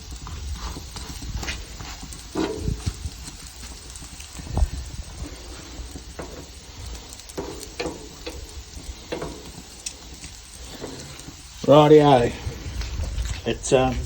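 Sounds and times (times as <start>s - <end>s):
food sizzling on a hotplate: 0.0s - 14.0s
spitting oil popping: 0.0s - 14.0s.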